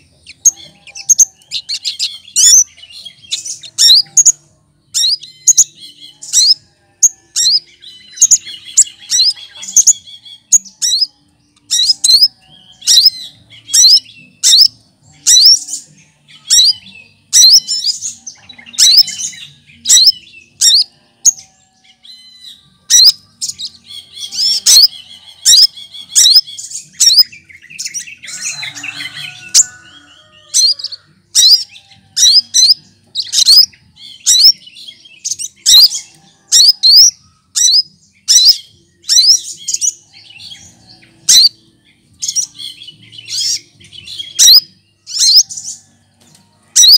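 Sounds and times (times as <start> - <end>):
bird singing sharp calls: 0.0 - 46.0, 46.7 - 46.9.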